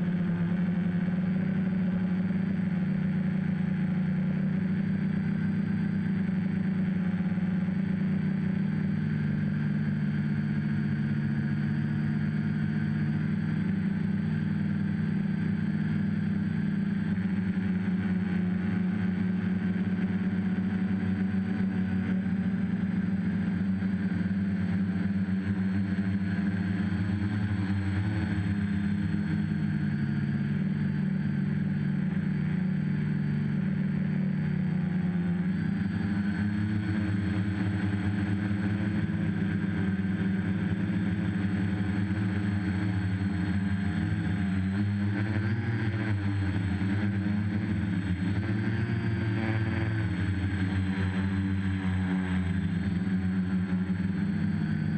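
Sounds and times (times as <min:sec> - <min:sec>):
drone propellers droning: 0:00.0 - 0:54.9.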